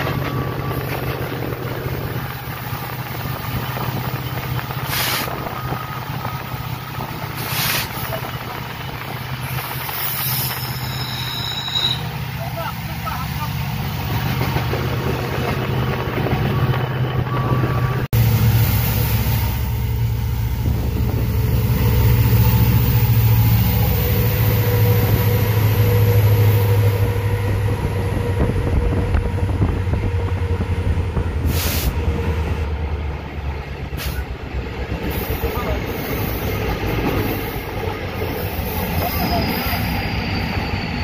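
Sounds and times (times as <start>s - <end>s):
locomotive engine drone: 0.0s - 41.0s
wheels rumbling on rails: 0.0s - 41.0s.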